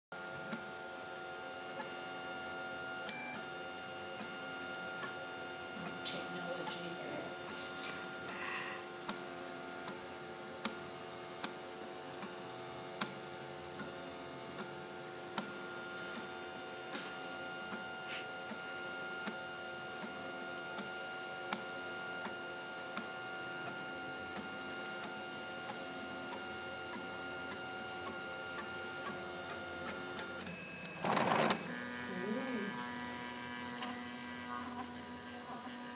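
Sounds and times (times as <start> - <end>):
printer motors whining: 0.2 - 35.9.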